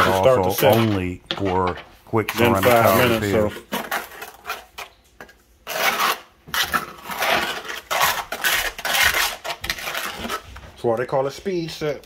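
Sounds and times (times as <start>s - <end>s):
trowel scraping mortar in pan: 0.0s - 5.0s, 5.6s - 10.5s.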